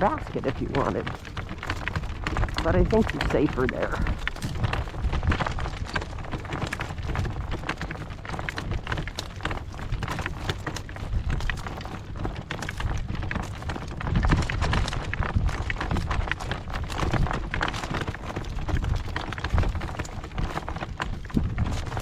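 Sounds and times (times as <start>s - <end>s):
horse hoofbeats: 0.0s - 22.0s
saddle and tack noise: 0.0s - 22.0s
wind rumble on microphone: 0.0s - 22.0s.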